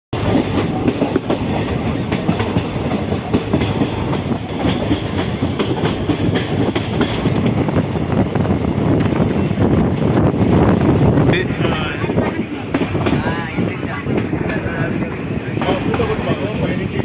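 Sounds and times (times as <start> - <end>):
train wheels clattering: 0.2 - 17.0.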